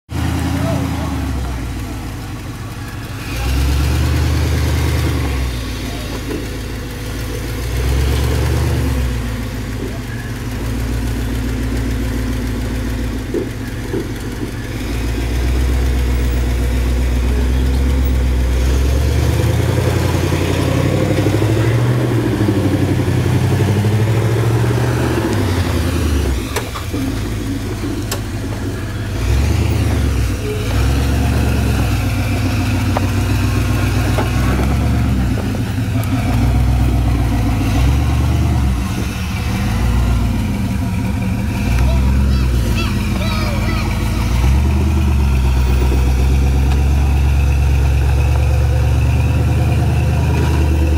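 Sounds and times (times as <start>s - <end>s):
engine running under load: 0.1s - 50.9s.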